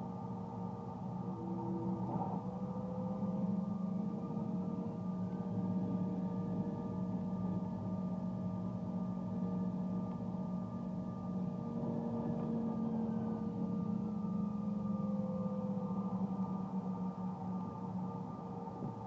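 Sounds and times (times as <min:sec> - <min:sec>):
faint high engine whine: 0:00.0 - 0:19.0
jet engines humming in cabin: 0:00.0 - 0:19.0.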